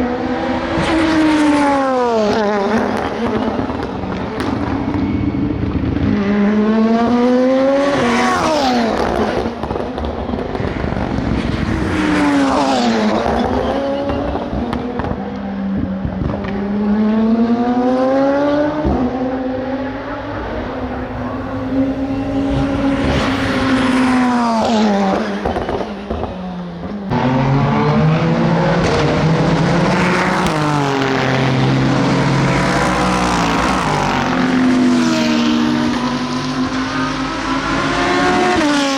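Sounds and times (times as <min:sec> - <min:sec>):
racing car engines passing: 0:00.0 - 0:38.9.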